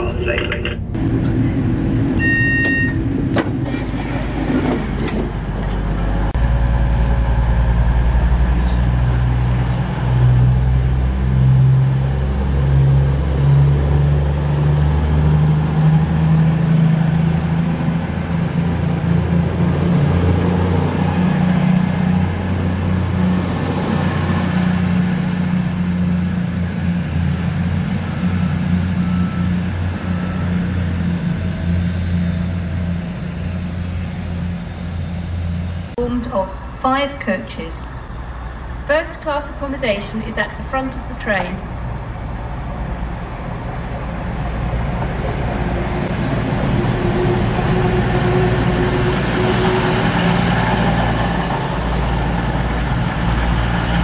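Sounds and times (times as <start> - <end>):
diesel train engines accelerating: 0.0 - 54.0.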